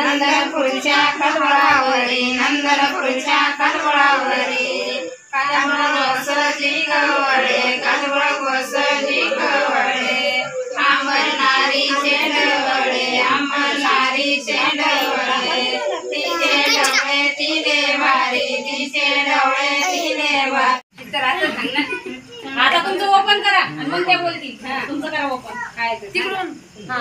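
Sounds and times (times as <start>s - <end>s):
women singing a cradle song: 0.0s - 21.7s.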